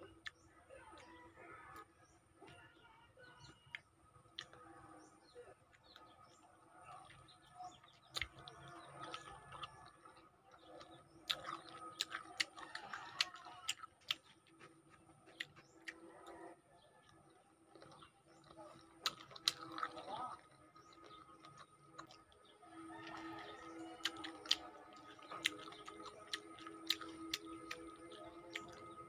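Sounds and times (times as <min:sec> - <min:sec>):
wet chewing and lip-smacking: 0:00.0 - 0:02.6, 0:03.2 - 0:29.0
birds chirping: 0:00.0 - 0:29.0.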